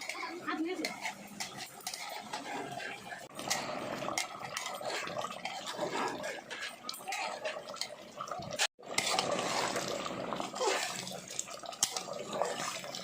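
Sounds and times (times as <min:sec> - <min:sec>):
spoon scraping metal pot: 0:00.0 - 0:13.0.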